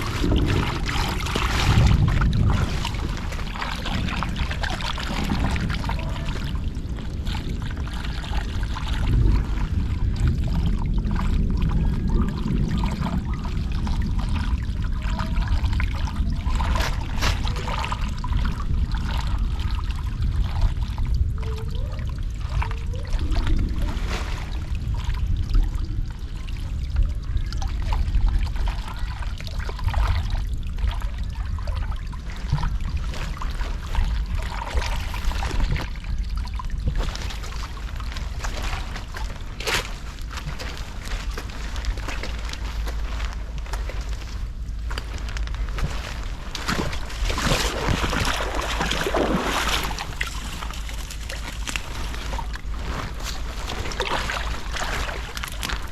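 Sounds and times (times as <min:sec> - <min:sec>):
water rushing through culvert: 0:00.0 - 0:55.9
water splashes and knocks: 0:00.0 - 0:55.9.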